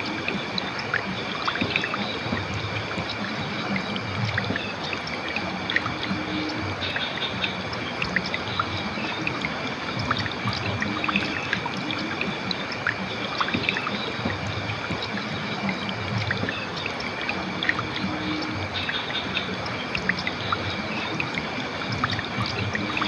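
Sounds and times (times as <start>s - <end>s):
river water flowing over rocks: 0.0s - 23.0s.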